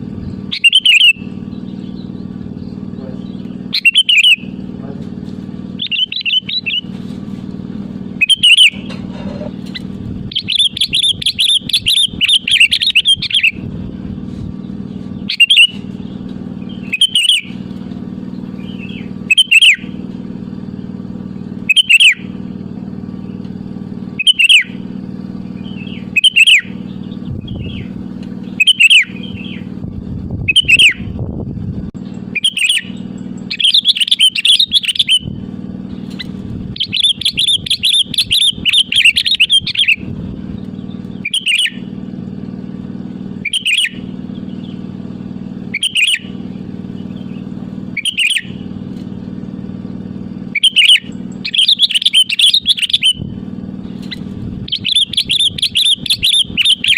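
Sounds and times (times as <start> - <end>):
bulbul calling: 0.0 - 4.9, 5.6 - 7.0, 8.0 - 13.8, 14.6 - 29.8, 30.4 - 31.2, 32.0 - 42.6, 43.2 - 48.8, 49.8 - 56.9
steady low hum: 0.0 - 56.9.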